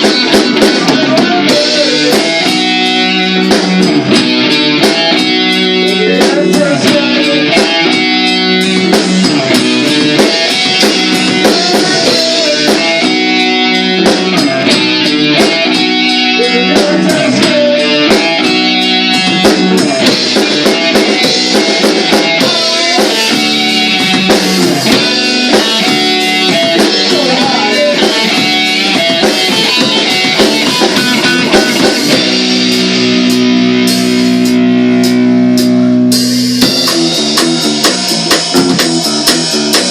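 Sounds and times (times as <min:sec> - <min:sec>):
drum kit playing: 0:00.0 - 0:39.9
electric guitar riff: 0:00.0 - 0:39.9.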